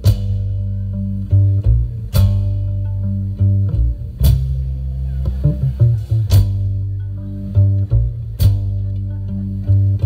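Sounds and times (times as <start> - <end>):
deep upright bass line: 0.0 - 10.0
folk band playing instrumental: 0.0 - 10.0.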